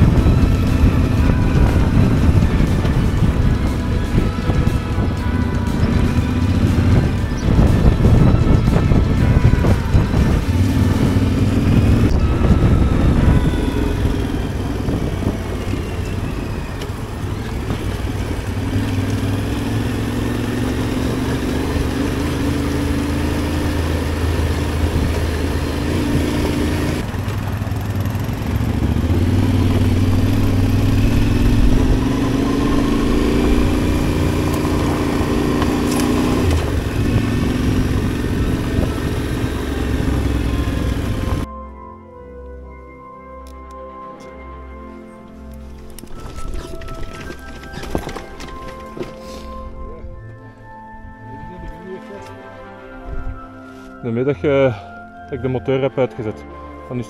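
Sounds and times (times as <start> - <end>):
motorcycle engine running: 0.0 - 41.5, 45.7 - 49.9.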